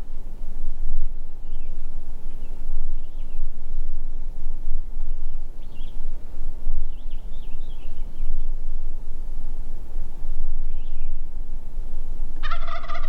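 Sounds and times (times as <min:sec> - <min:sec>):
low rumble: 0:00.0 - 0:13.0
songbird chirping: 0:00.0 - 0:13.0.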